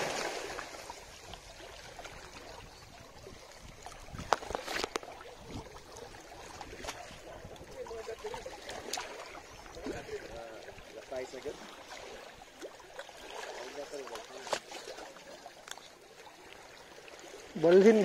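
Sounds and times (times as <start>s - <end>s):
water washing and trickling: 0.0s - 18.0s.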